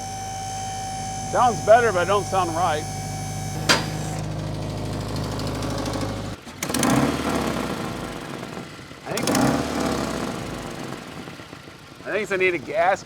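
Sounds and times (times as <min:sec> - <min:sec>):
engine with exhaust leak: 0:00.0 - 0:13.0.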